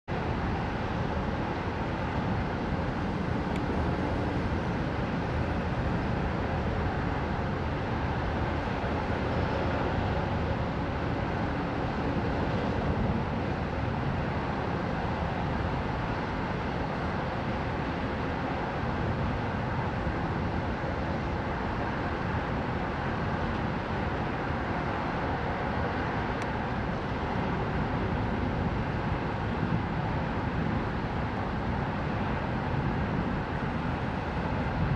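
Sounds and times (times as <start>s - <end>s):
heavy road traffic: 0.1s - 34.9s.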